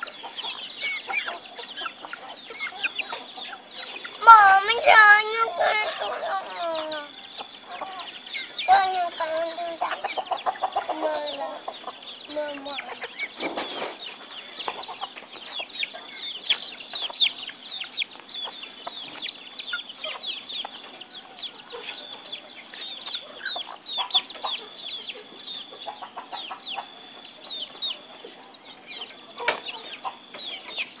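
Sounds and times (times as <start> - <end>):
thin steady high tone: 0.0 - 13.4, 14.1 - 31.0
chicks peeping: 0.0 - 31.0.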